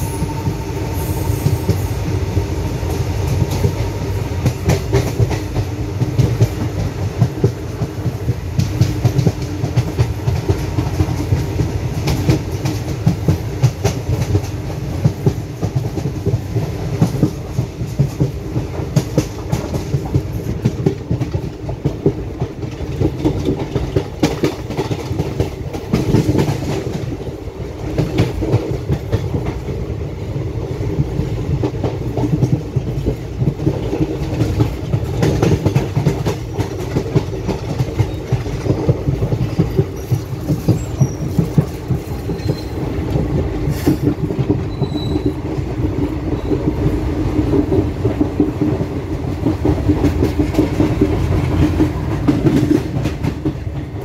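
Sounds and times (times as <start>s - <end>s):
train wheels clattering: 0.0s - 30.0s, 30.6s - 54.0s
train rumble: 0.0s - 54.0s.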